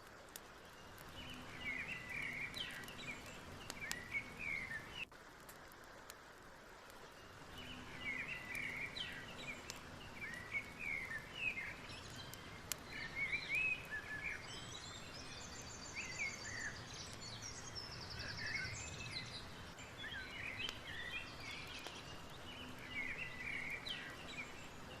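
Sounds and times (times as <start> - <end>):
steady background hiss: 0.0 - 25.0
birds chirping and whistling: 1.1 - 5.0, 7.5 - 25.0.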